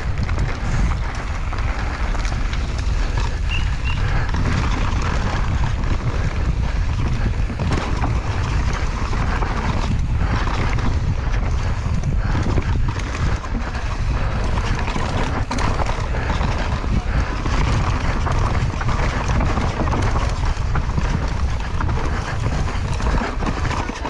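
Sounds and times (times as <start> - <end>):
bike rattling and knocking: 0.0 - 24.0
wind buffeting microphone: 0.0 - 24.0.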